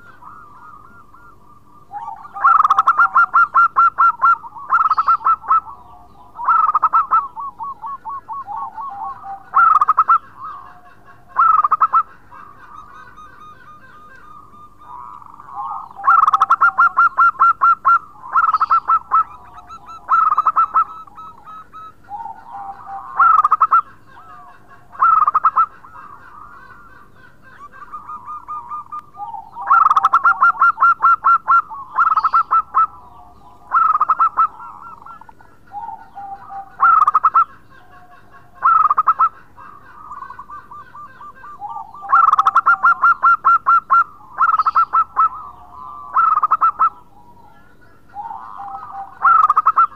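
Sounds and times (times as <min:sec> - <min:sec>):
dove stuttering coos: 0:00.0 - 0:47.4, 0:48.0 - 0:49.9
soft low dove coos: 0:00.0 - 0:49.9.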